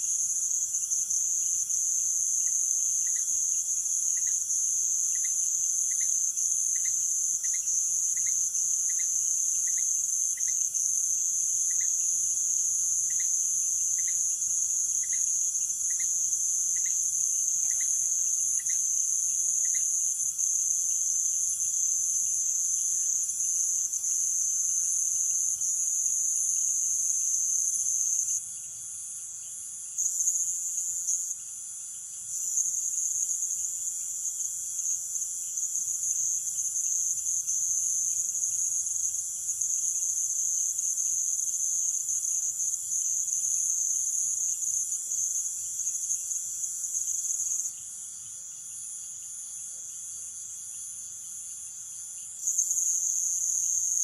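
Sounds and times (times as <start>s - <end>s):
low insect trill: 0.0s - 54.0s.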